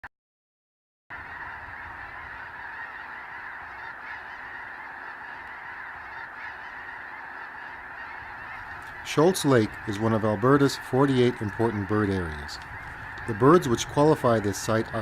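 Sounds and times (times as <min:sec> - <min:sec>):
geese honking: 0:01.1 - 0:15.0.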